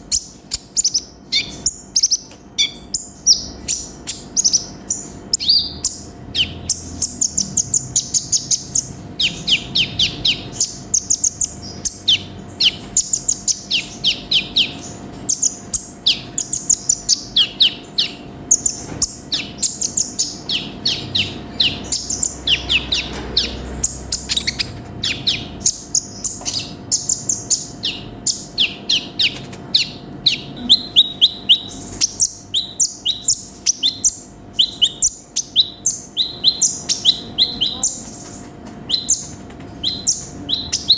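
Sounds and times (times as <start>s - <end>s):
sunbird chirping: 0.0s - 40.9s.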